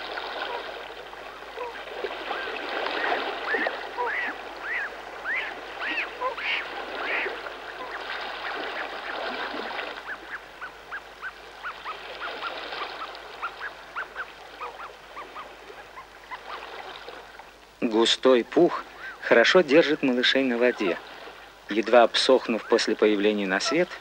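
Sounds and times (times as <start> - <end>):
water birds calling: 0.0 - 24.0.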